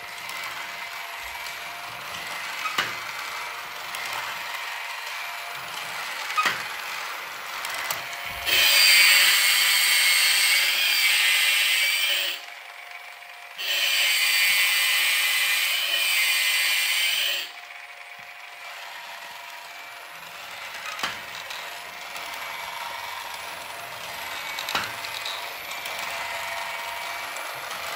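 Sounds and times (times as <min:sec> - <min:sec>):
toy motor whirring with gear chatter: 0:00.0 - 0:27.9.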